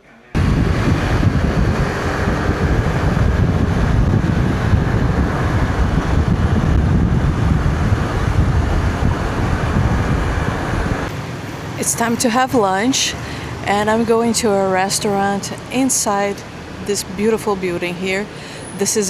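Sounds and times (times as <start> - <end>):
wind buffeting microphone: 0.4 - 17.8
moving vehicle noise: 0.4 - 19.0.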